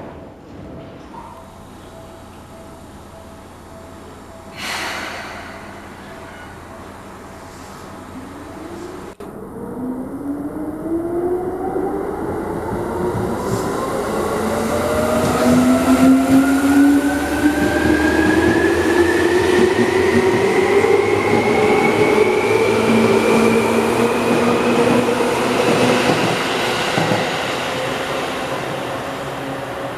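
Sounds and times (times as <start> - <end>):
wheels rumbling on rail: 0.0 - 29.9.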